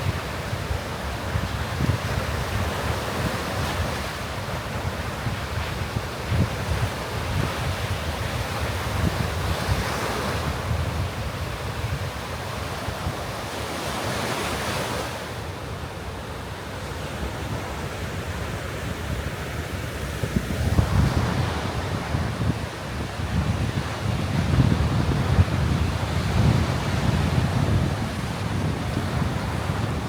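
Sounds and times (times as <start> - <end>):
wind buffeting microphone: 0.0 - 13.4, 18.9 - 30.0.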